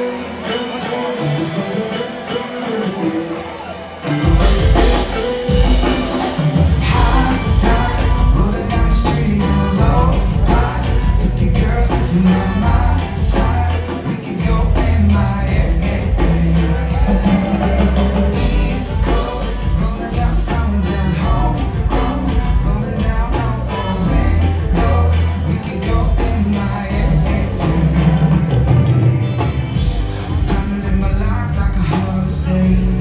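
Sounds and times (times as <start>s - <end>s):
person singing: 0.0s - 29.1s
drums steady beat: 0.0s - 33.0s
heavy bass: 4.2s - 33.0s.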